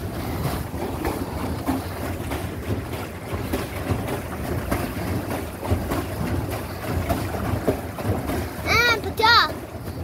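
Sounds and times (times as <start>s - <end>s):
lake water splashing: 0.0s - 10.0s.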